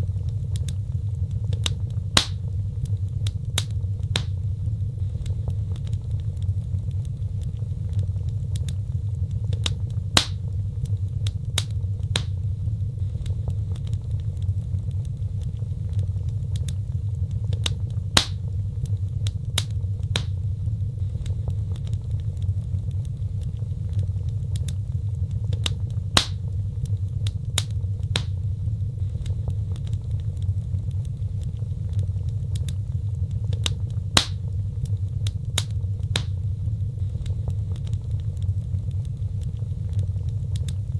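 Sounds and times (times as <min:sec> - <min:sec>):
fireplace fire crackling: 0:00.0 - 0:40.9.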